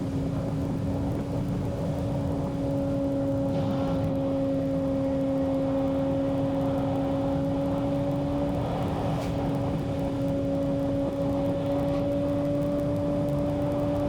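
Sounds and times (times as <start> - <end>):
car engine drone: 0.0 - 14.0.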